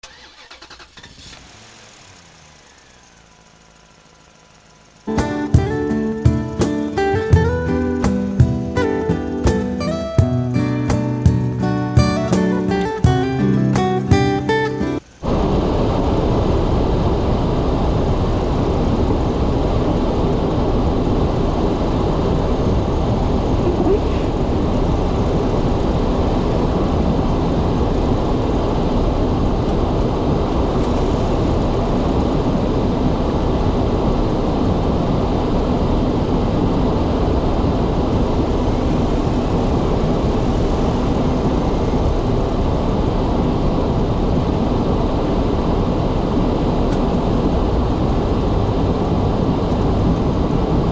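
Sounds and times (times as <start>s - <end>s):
car tyre and engine rumble: 0.0s - 50.9s.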